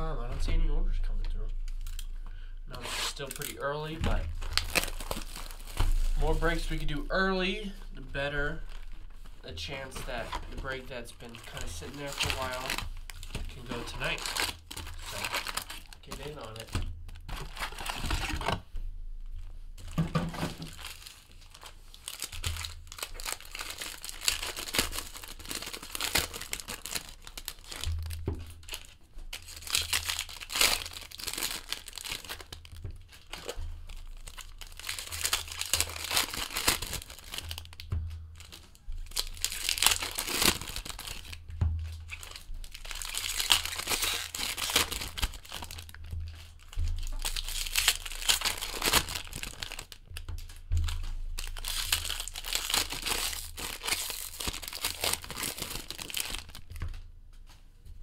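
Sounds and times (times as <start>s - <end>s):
foil wrappers crinkling and tearing: 2.7s - 18.6s, 19.8s - 57.0s.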